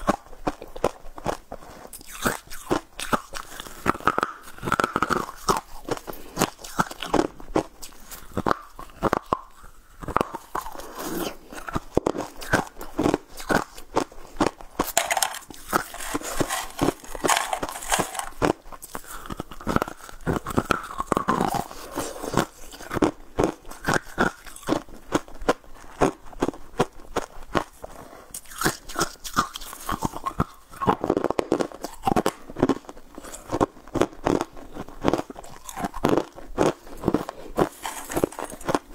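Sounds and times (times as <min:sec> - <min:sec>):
crunchy candy chewing: 0:00.0 - 0:38.9.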